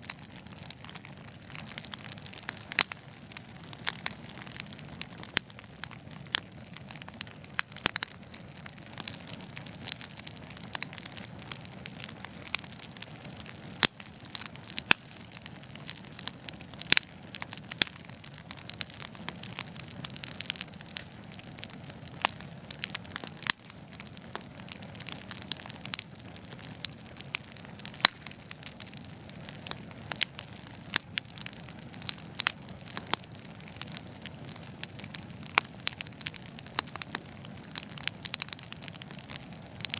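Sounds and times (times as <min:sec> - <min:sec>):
flames hissing and rumbling: 0:00.0 - 0:39.9
wood fire crackling and popping: 0:00.0 - 0:39.9.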